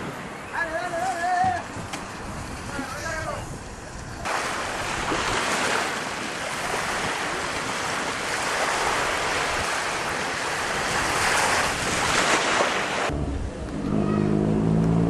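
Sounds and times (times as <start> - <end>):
choppy waves: 0.0 - 15.0.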